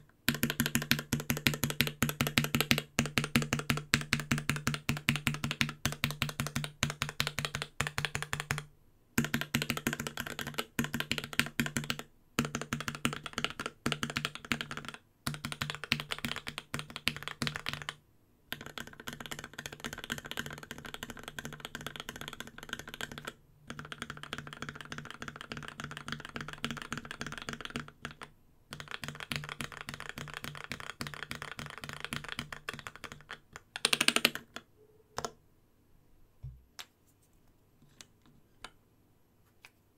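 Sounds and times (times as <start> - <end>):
fast mechanical keyboard typing: 0.3 - 34.6.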